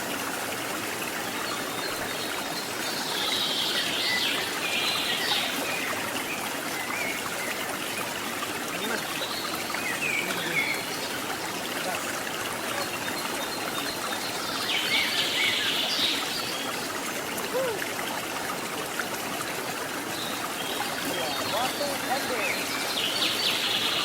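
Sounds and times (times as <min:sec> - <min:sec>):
waterfall trickling over rocks: 0:00.0 - 0:24.0
birds chirping: 0:01.4 - 0:17.4, 0:20.1 - 0:24.0.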